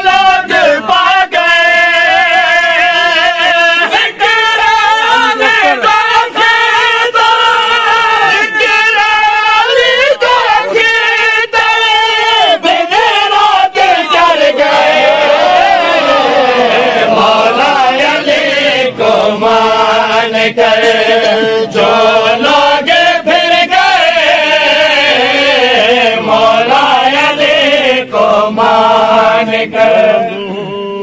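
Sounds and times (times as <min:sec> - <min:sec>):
men chanting: 0:00.0 - 0:31.0.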